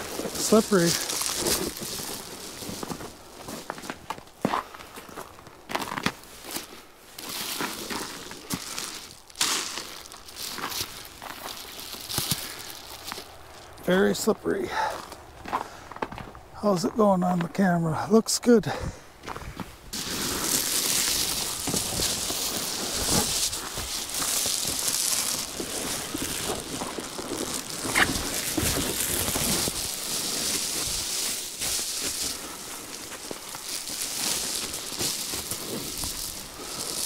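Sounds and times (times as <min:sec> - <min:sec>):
foil insulation crinkling: 0:00.0 - 0:14.2, 0:19.9 - 0:37.0.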